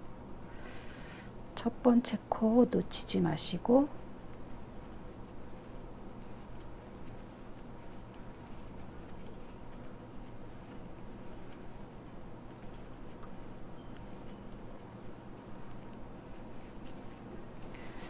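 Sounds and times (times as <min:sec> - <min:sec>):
low steady hum: 0:00.0 - 0:18.0
faint rustling: 0:02.3 - 0:18.0.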